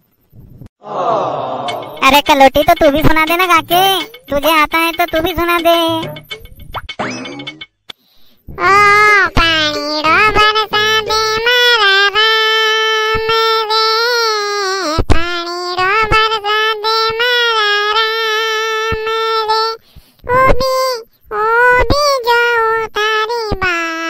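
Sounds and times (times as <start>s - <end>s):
high-pitched cartoon voice singing: 1.8s - 6.2s, 8.5s - 24.0s.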